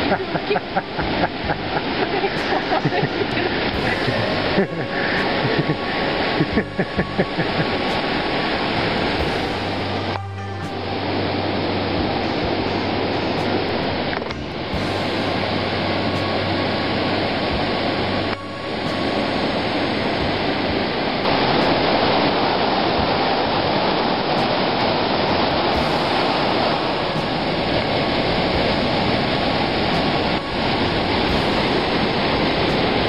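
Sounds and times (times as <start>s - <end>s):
river rushing over rapids: 0.0s - 33.0s.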